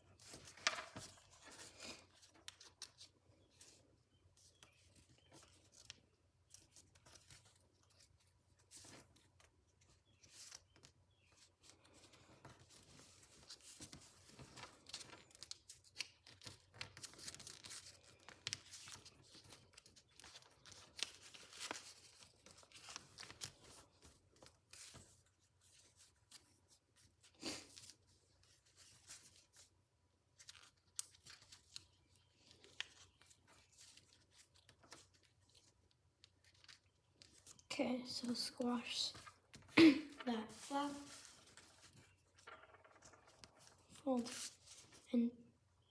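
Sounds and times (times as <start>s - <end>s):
paper crinkling and creasing: 0.0s - 45.1s.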